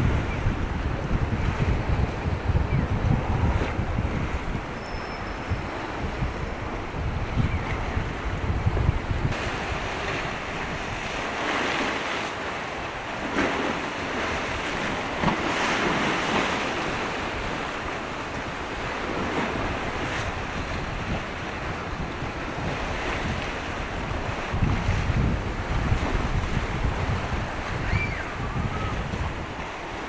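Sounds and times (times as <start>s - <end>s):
strong gusty wind on microphone: 0.0s - 30.0s.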